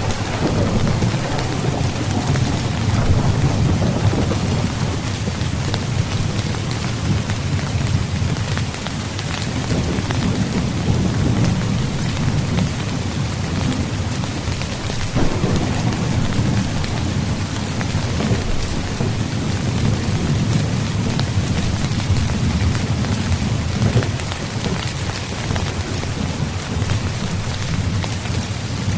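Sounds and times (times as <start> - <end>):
rain falling on a tent: 0.0 - 28.9.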